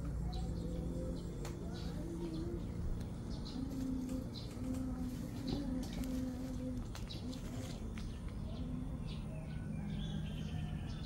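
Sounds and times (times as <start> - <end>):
dove cooing: 0.0 - 11.0
small birds chirping: 0.0 - 11.0.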